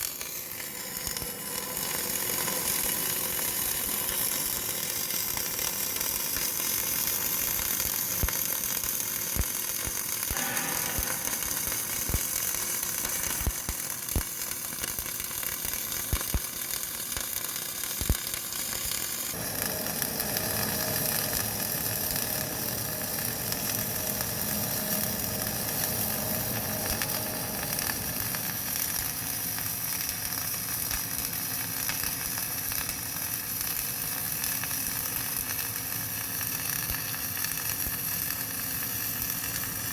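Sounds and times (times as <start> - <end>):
sharp welding pops: 0.0 - 39.7
welding arc sizzling: 0.0 - 39.9.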